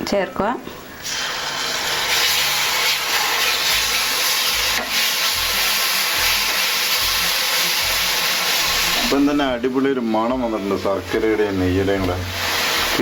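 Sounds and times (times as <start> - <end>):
frying hiss in a pan: 1.0 - 13.0.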